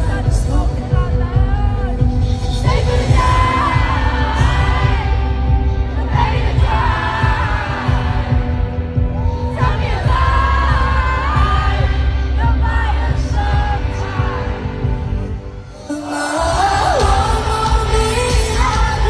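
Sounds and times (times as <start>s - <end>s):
pop backing track with heavy bass: 0.0s - 19.0s
woman singing: 0.0s - 19.0s.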